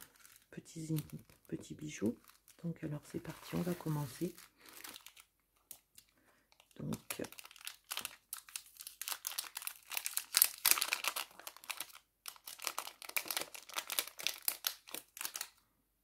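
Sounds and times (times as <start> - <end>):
packaging crinkling and rustling: 0.0 - 15.6.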